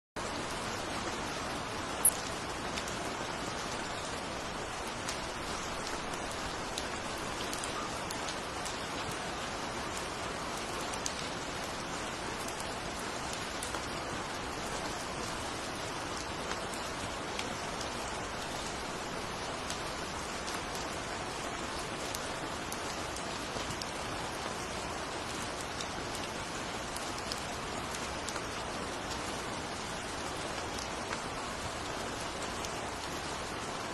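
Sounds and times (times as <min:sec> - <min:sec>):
steady rain falling: 0:00.2 - 0:33.9.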